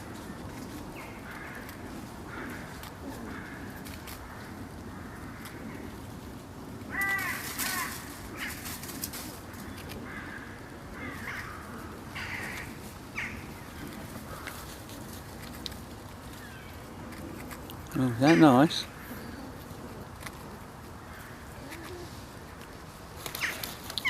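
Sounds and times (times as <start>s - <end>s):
birds calling harshly: 0.0s - 5.9s, 6.9s - 15.6s, 16.2s - 22.2s, 23.2s - 24.0s.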